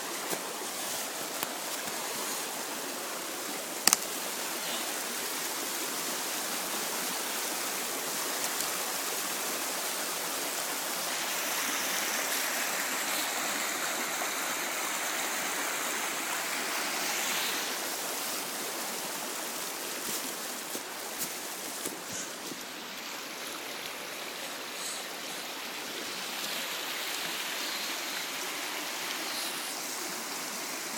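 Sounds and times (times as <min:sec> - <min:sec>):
water rushing over rocks: 0:00.0 - 0:30.9.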